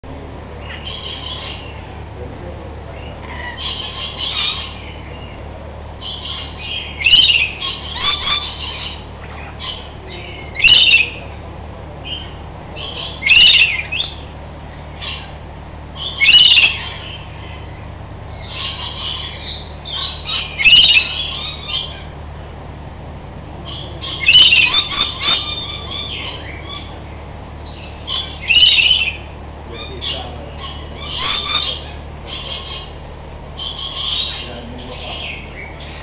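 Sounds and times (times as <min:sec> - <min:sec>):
birds calling high sweeping notes: 0:00.1 - 0:36.0.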